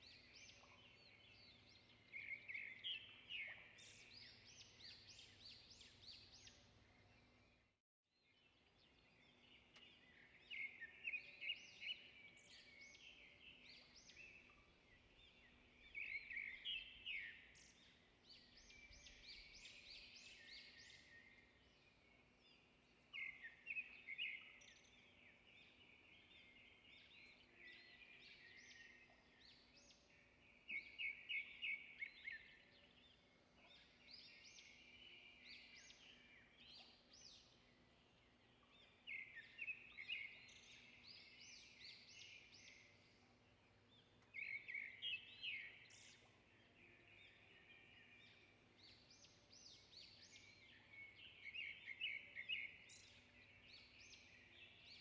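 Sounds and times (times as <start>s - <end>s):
birds chirping and trilling: 0.0s - 7.7s, 8.4s - 55.0s.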